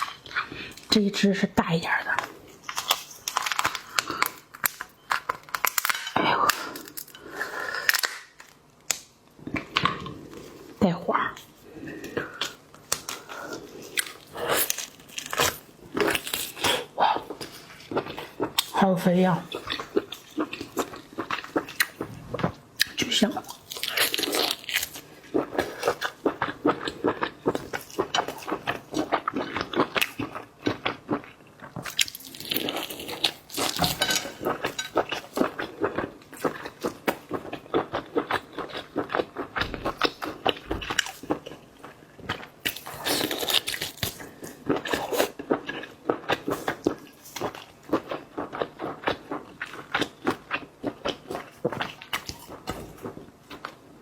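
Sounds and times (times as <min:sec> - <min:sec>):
crunching and chewing: 0:00.0 - 0:00.9, 0:02.2 - 0:10.8, 0:11.4 - 0:18.8, 0:19.4 - 0:54.0.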